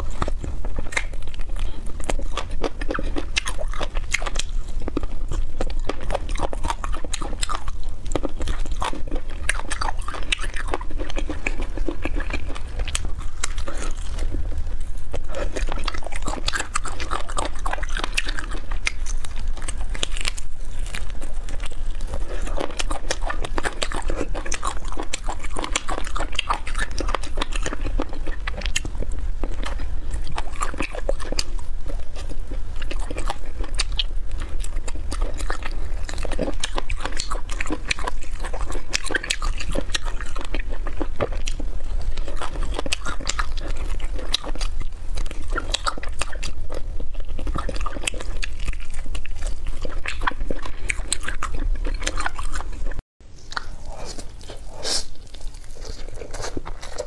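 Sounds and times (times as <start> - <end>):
chewing and lip-smacking: 0.0 - 57.0.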